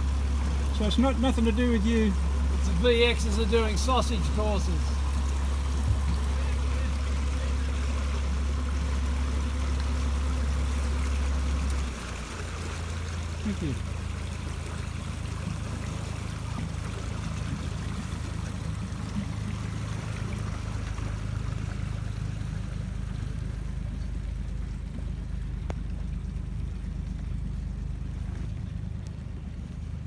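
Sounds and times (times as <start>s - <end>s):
boat engine low rumble: 0.0s - 30.0s
water splashing along hull: 0.0s - 30.0s.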